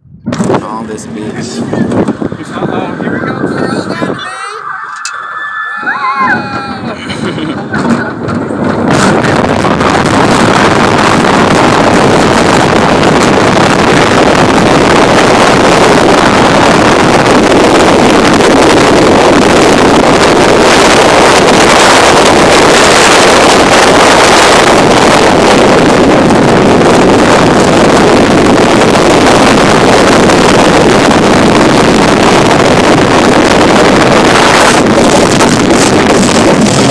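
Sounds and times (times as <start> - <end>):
wind buffeting microphone: 0.0 - 36.9
roller coaster train on track: 0.1 - 36.9.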